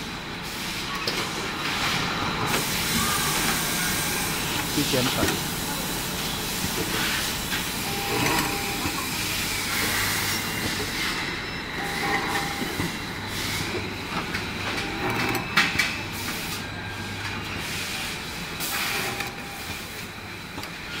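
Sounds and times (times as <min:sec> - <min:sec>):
machine humming: 0:02.0 - 0:21.0.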